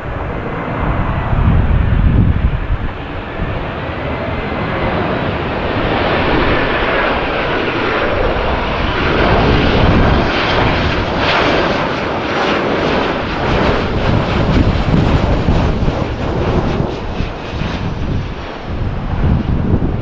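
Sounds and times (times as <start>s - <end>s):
jet airliner engine rumble and whine: 0.0s - 20.0s.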